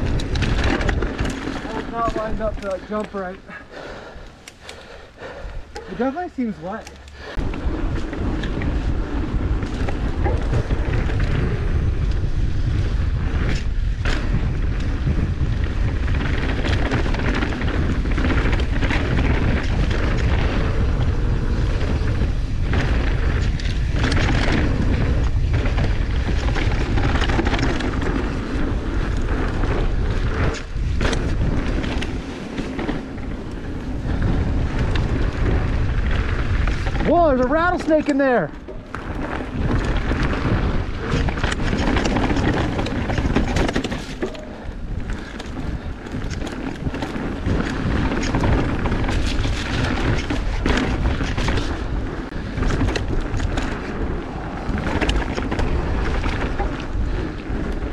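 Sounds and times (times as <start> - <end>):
bike knocks and rattles: 0.0 - 3.4, 5.7 - 57.9
tyres on dirt: 0.0 - 57.9
wind rumble on microphone: 0.0 - 57.9.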